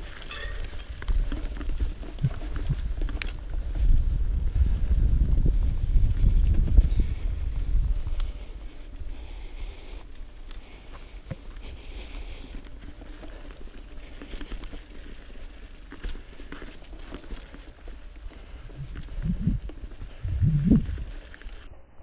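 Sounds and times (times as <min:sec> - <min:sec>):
wind rumble on microphone: 0:00.0 - 0:15.4, 0:16.0 - 0:21.8
bike rattling over bumps: 0:00.0 - 0:21.7
bike tyres on dirt and leaves: 0:00.0 - 0:22.0.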